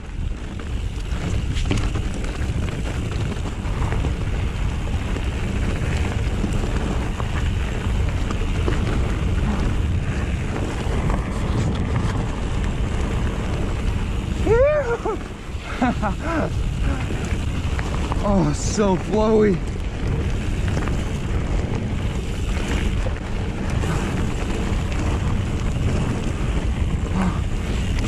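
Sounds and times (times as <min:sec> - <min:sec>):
tyres rolling rumble: 0:00.0 - 0:28.0
wind buffeting microphone: 0:00.0 - 0:28.0.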